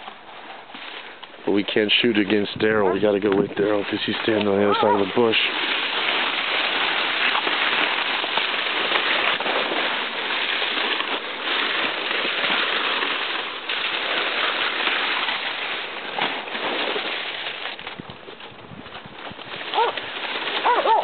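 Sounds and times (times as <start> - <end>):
stiff fronds rustling and scraping: 0.0 - 21.0.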